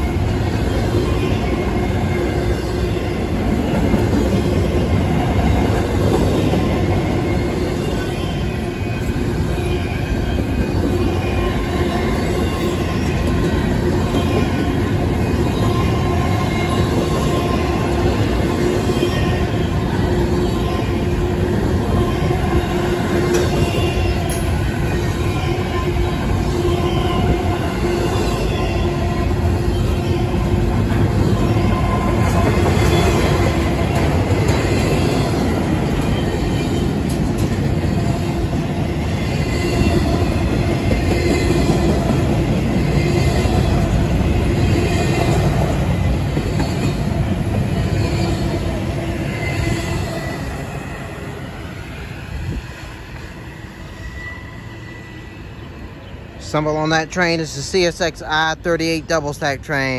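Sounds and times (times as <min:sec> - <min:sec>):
steel wheels rumbling on rails: 0:00.0 - 0:59.7.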